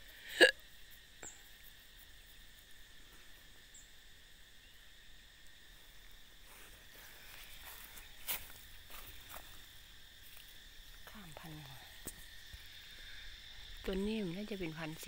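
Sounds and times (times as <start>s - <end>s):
faint insect drone: 0.0s - 15.0s.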